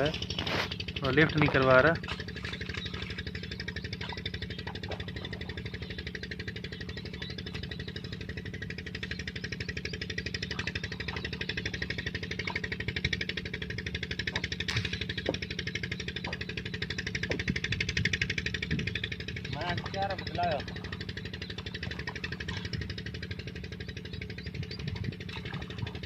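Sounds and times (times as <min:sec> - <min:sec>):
diesel engine thumping: 0:00.0 - 0:26.0.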